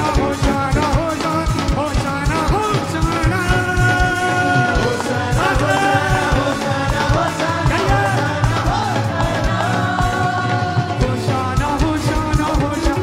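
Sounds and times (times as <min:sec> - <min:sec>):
fast drum beat: 0:00.0 - 0:13.0
person singing: 0:00.0 - 0:13.0.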